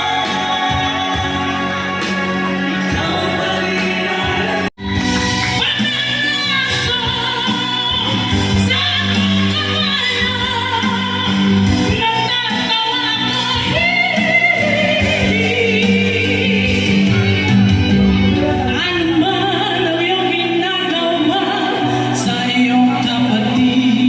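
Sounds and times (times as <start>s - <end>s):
song over pa system: 0.0s - 24.0s.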